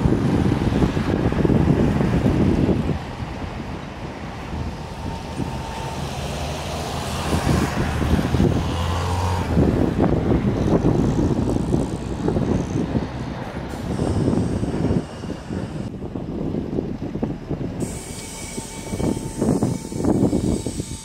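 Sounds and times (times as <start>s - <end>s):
road noise with crackles: 0.0s - 21.0s
trolleybus humming: 0.0s - 21.0s.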